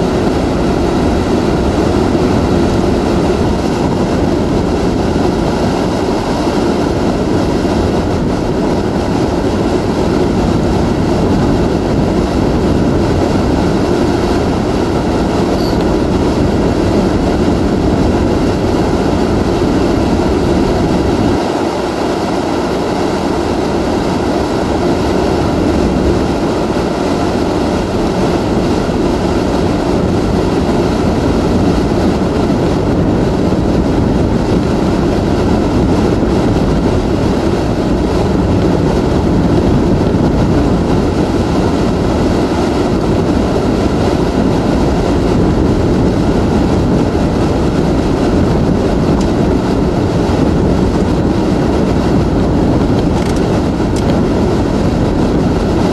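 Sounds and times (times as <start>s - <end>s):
wind and rain against vehicle: 0.0s - 55.9s.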